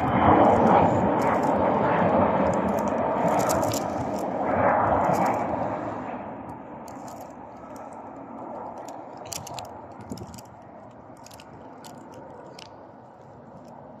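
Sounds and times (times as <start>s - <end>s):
small clicks and crackles: 0.0s - 5.8s, 6.4s - 14.0s
jet engine rush: 0.0s - 14.0s.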